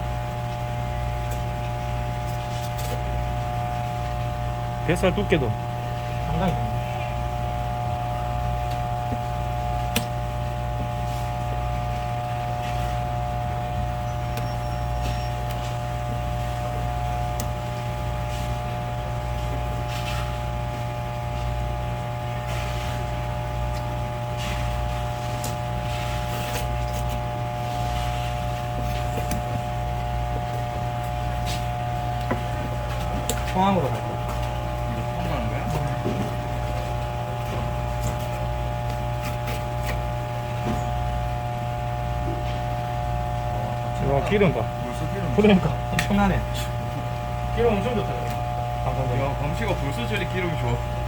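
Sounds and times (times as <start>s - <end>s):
mechanical hum: 0.0s - 51.0s.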